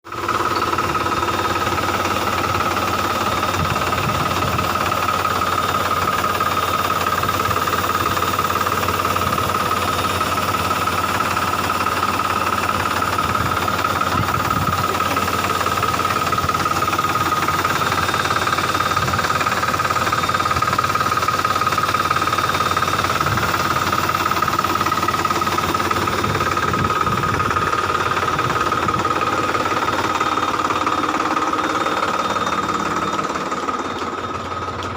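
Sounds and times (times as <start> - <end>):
milking machine running: 0.1 - 34.9.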